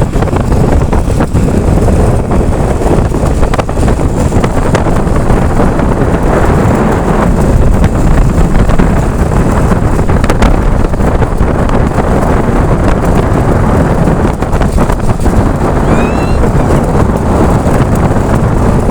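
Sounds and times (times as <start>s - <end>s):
storm wind on microphone: 0.0s - 18.9s.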